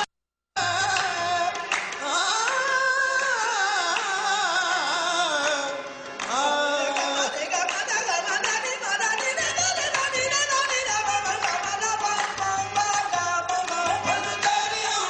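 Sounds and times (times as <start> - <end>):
harmonium: 0.6 - 15.0
man singing melismatic line: 0.6 - 15.0.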